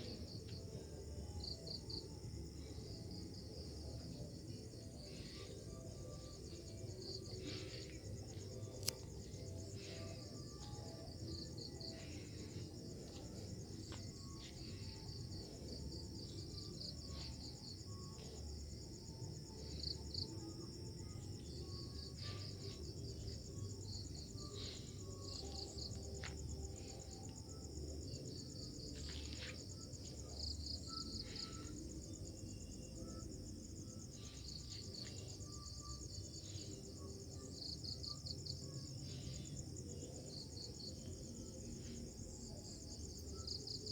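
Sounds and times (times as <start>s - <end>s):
crickets and insects trilling: 0.0s - 43.9s.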